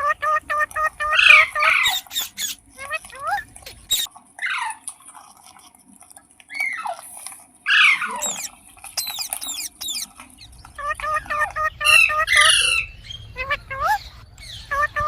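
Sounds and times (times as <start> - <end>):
parrot squawks and chirps: 0.0 - 4.8, 7.7 - 15.0.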